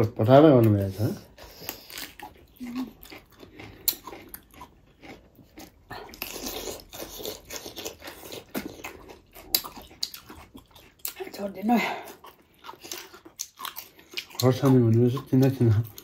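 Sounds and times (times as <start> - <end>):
crunching and chewing cucumber: 0.0 - 16.0.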